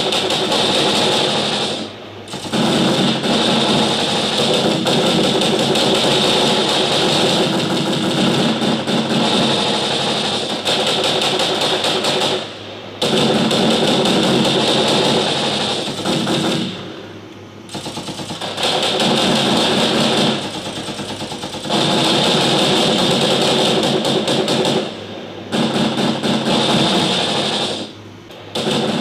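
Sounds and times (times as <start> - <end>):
machine-gun bursts: 0.0 - 16.8, 17.7 - 29.0.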